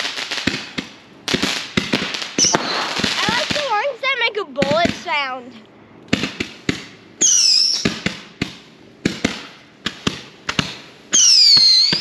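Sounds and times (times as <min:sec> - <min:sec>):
firework pops and cracks: 0:00.0 - 0:03.9, 0:04.6 - 0:05.2, 0:06.0 - 0:12.0
firework rockets whistling: 0:00.0 - 0:03.9, 0:06.1 - 0:12.0.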